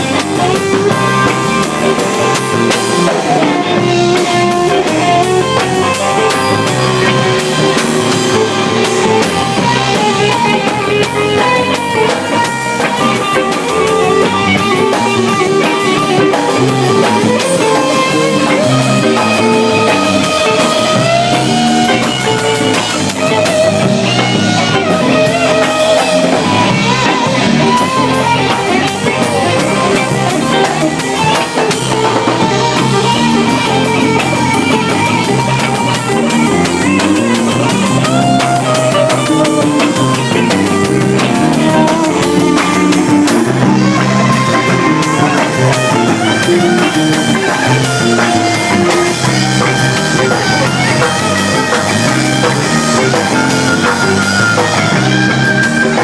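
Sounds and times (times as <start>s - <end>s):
drum kit: 0.0s - 56.0s
electric guitar: 0.0s - 56.0s
rock band playing: 0.0s - 56.0s.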